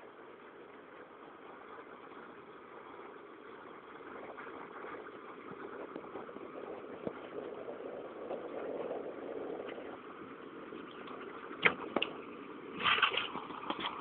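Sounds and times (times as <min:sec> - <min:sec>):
thunderstorm noisy wash: 0:00.0 - 0:14.0.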